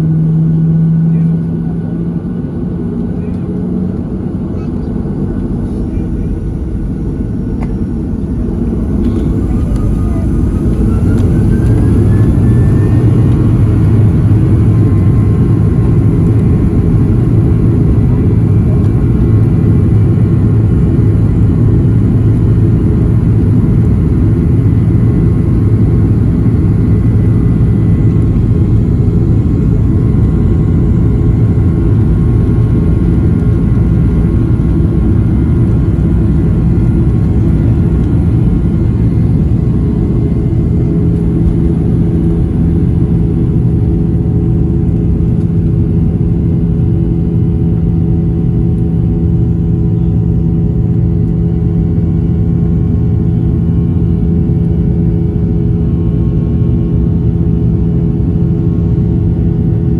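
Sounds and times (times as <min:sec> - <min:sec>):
faint high engine whines: 0:00.0 - 0:59.9
jet engines rumbling in cabin: 0:00.0 - 0:59.9.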